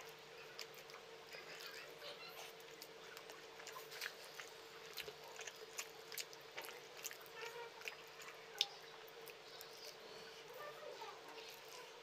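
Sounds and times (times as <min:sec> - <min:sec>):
faint steady hum: 0:00.0 - 0:12.0
person chewing food: 0:00.0 - 0:12.0.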